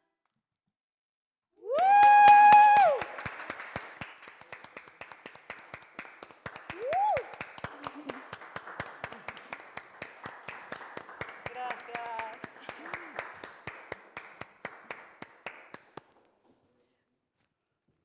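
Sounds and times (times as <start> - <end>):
small audience clapping: 1.7 - 16.7.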